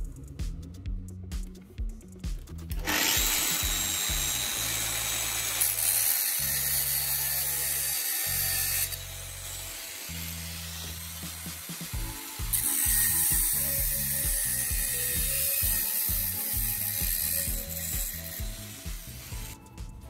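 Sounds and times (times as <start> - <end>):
grinder disc cutting aluminium: 2.7 - 19.6
grinder motor whine: 2.7 - 19.6.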